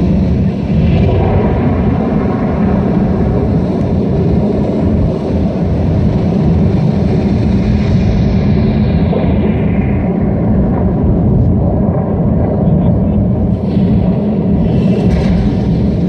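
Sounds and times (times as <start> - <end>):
low rumble over loudspeakers: 0.0 - 16.0.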